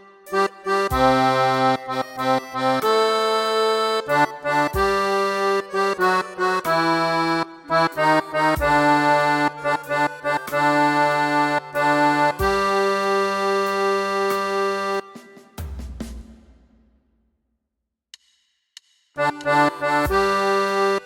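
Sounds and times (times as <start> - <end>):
hymn chords on keyboard: 0.0 - 15.4, 19.2 - 21.0.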